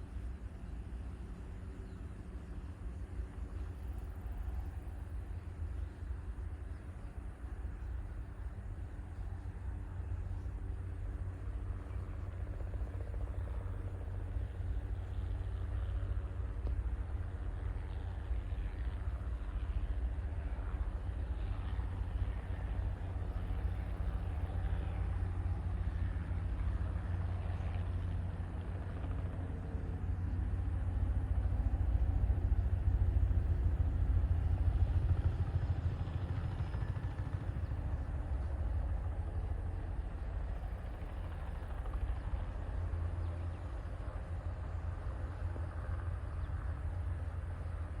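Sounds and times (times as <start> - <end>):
helicopter rotor and engine drone: 0.0 - 48.0.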